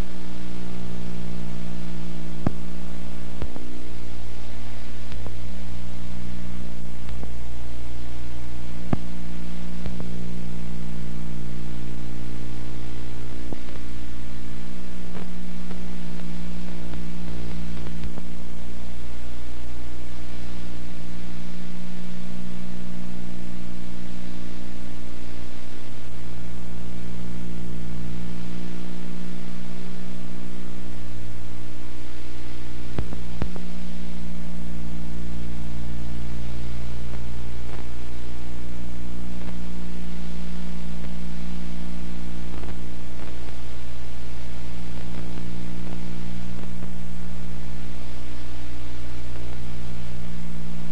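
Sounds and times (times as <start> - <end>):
electrical hum with hiss: 0.0 - 50.9.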